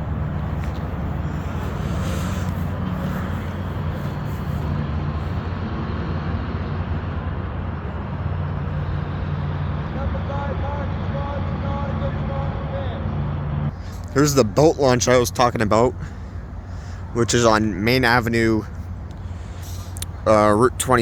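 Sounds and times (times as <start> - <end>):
outdoor rumble: 0.0 - 21.0
vehicle engine humming: 0.0 - 21.0.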